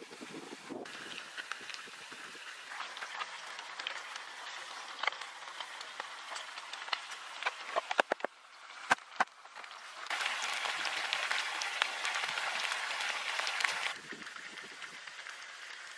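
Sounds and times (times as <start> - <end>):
chicken deep-frying in oil: 0.0 - 15.9
faint hiss with crackles: 0.0 - 15.9.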